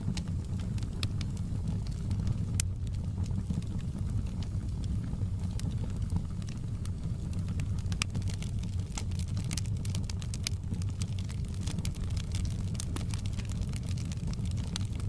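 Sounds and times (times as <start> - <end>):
campfire flame rumbling: 0.0 - 15.0
wood crackling and popping: 0.0 - 15.0.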